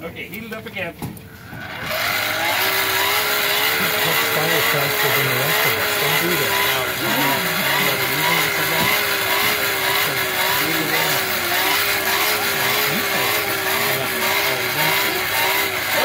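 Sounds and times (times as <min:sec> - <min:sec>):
hand-cranked blower whirring: 0:01.3 - 0:16.0.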